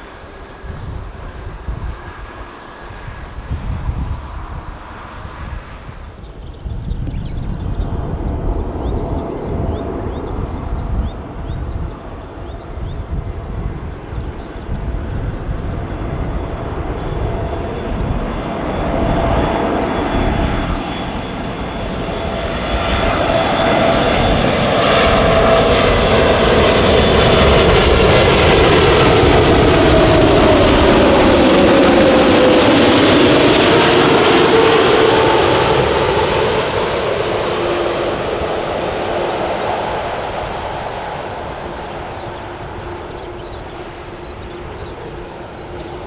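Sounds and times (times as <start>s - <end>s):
jet engines passing: 0.0s - 46.0s.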